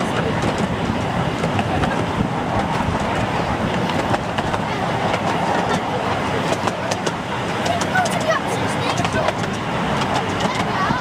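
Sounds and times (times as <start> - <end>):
train wheels rumbling: 0.0 - 11.0
wheels clicking over rail joints: 0.0 - 11.0.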